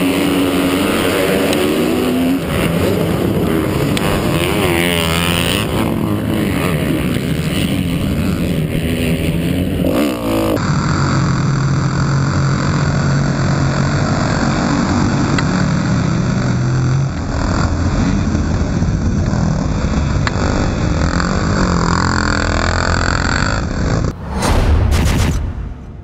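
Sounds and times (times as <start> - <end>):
motocross engines revving: 0.0 - 24.2.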